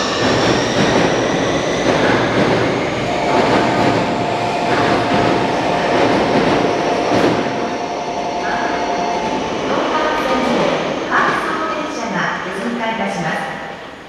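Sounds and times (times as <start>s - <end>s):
high whine of train: 0.0s - 14.0s
train running over track: 0.0s - 14.0s.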